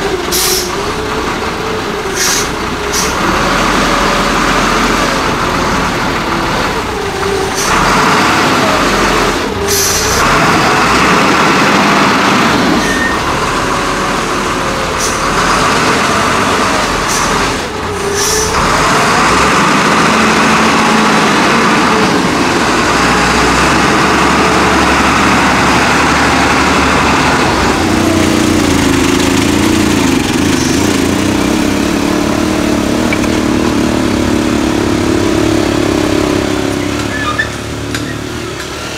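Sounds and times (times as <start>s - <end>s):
diesel engine revving under load: 0.0s - 38.9s.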